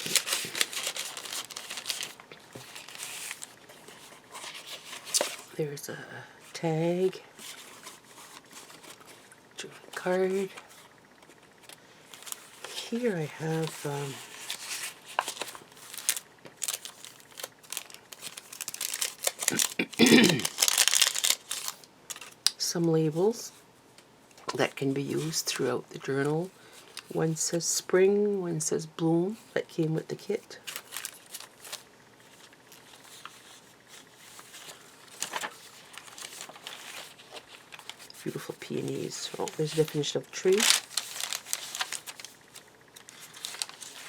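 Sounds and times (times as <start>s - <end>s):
paper rustling and crinkling: 0.0s - 5.6s, 7.0s - 22.4s, 26.6s - 27.5s, 30.6s - 44.0s.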